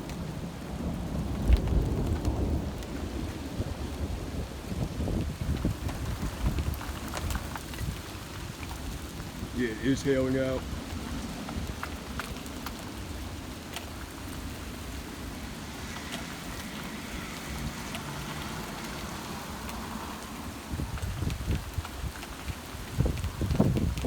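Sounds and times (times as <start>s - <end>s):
hailstones ticking on surfaces: 0.0s - 24.0s
heavy rain pouring: 0.0s - 24.0s.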